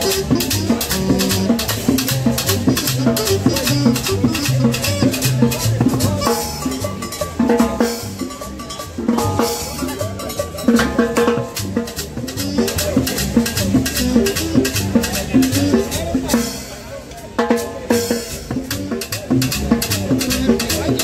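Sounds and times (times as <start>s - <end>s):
bass line: 0.0s - 16.5s, 18.1s - 21.0s
drum kit: 0.0s - 21.0s
live band dance music: 0.0s - 21.0s.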